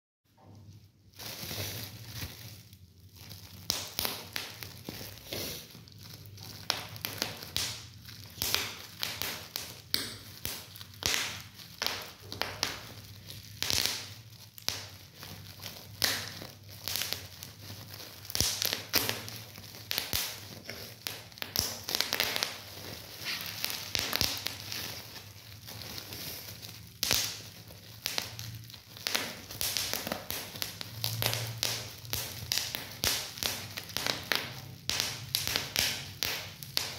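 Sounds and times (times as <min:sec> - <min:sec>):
bubble wrap crinkling: 0:00.3 - 0:36.9
bubble wrap popping: 0:00.3 - 0:36.9.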